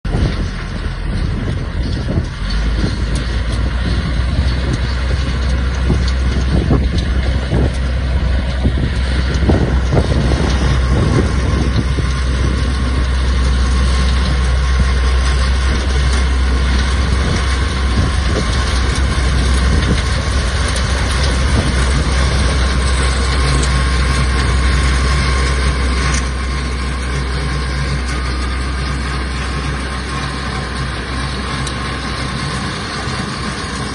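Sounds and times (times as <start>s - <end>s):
machinery rattling and knocking: 0.0s - 33.9s
tractor engine drone: 0.0s - 33.9s.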